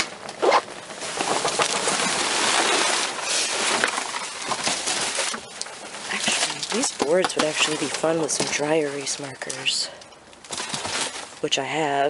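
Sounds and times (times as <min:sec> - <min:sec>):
items rustling in a dumpster: 0:00.0 - 0:12.0.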